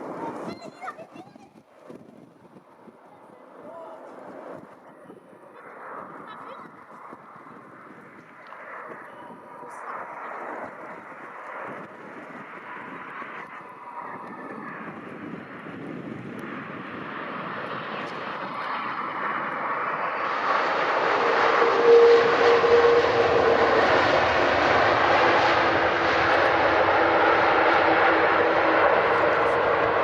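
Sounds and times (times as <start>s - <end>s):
airliner engines rushing: 2.0s - 30.0s.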